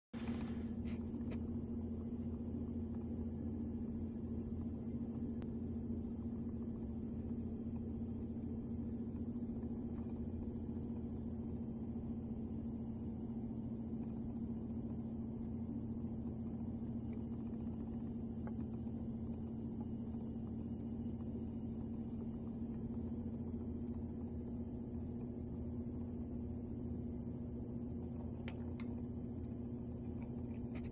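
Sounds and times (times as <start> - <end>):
electrical hum: 0.1 - 30.9.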